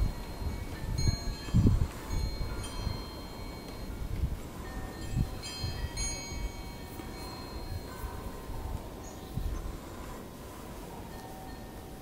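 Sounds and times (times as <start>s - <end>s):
wind chimes ringing: 0.0s - 12.0s.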